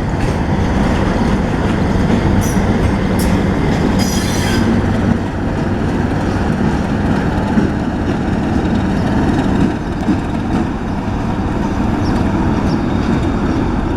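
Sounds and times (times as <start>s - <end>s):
diesel locomotive rumbling: 0.0s - 13.9s.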